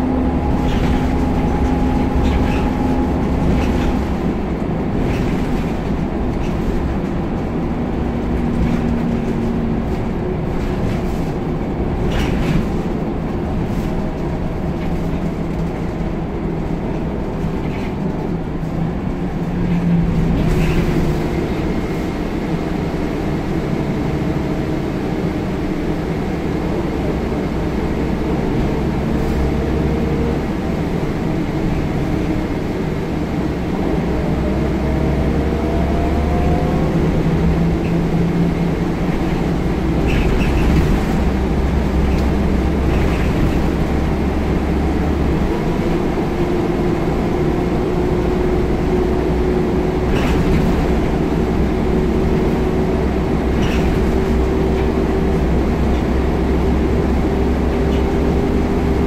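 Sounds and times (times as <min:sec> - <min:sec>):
bus diesel engine drone: 0:00.0 - 0:59.0
drivetrain whine: 0:00.0 - 0:59.0
road noise: 0:00.0 - 0:59.0.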